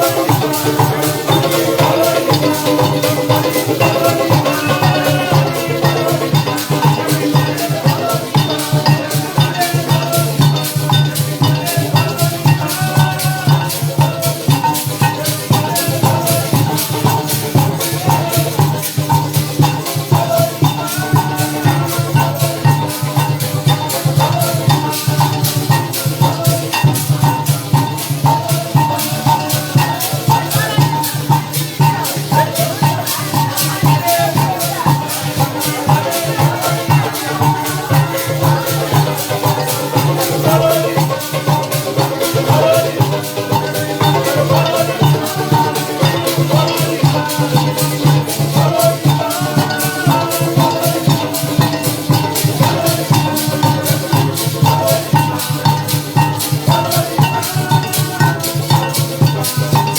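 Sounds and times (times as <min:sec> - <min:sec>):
drum: 0:00.0 - 0:59.9
maraca shaking: 0:00.0 - 0:59.9
melody instruments playing: 0:00.0 - 0:59.9.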